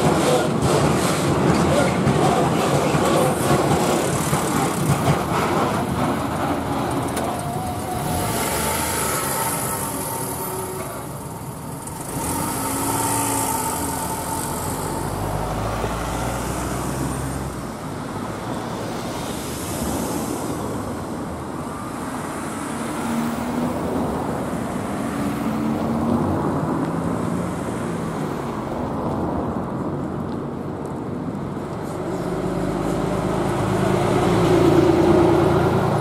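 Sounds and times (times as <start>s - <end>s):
cars driving over tracks: 0.0s - 36.0s
diesel bus pulling across: 0.0s - 36.0s.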